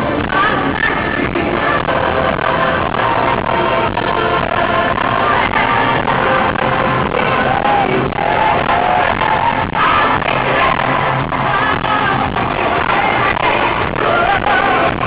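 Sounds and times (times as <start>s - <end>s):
distorted music with singing: 0.0s - 15.0s.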